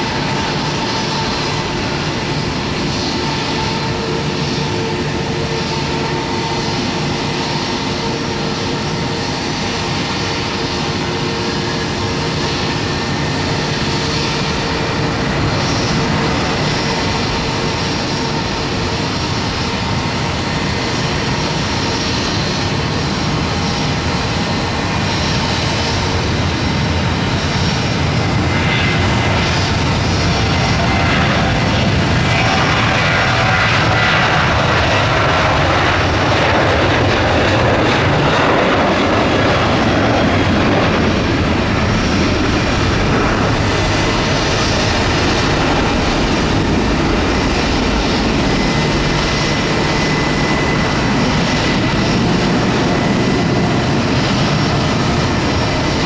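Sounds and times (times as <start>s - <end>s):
jet engines at takeoff: 0.0s - 56.0s.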